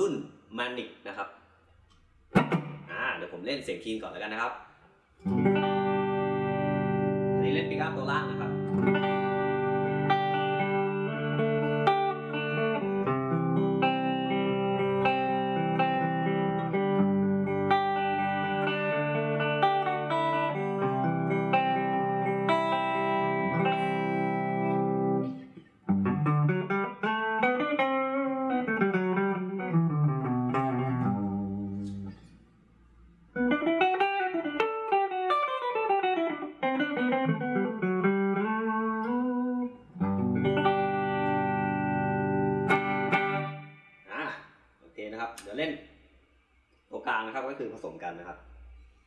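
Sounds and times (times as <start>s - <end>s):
clean electric guitar: 1.7s - 3.4s, 5.2s - 44.5s.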